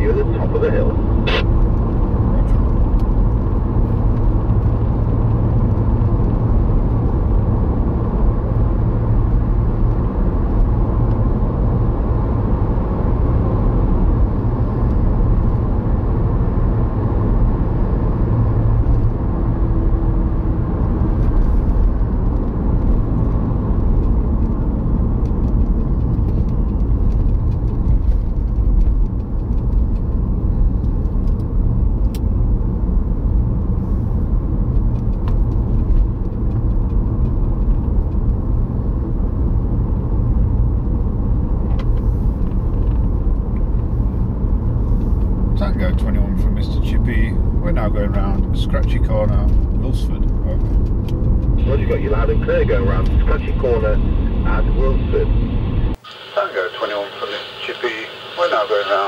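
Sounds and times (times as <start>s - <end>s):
car road noise rumble: 0.0s - 59.0s.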